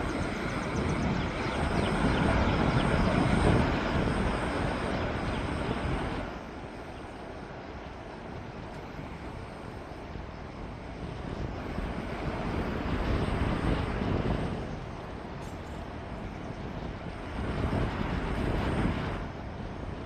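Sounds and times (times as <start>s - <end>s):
wind blowing with low rumble: 0.0s - 20.0s.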